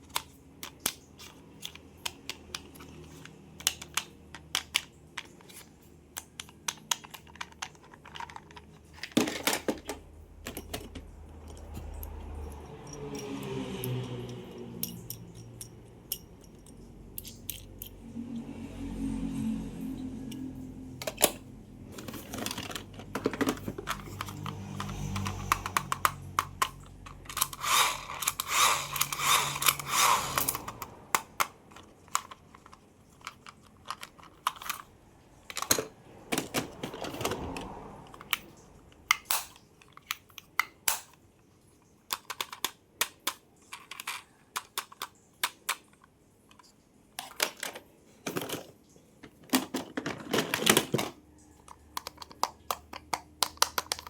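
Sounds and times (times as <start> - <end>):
plastic toy cars clicking: 0.0 - 18.0, 20.0 - 54.0.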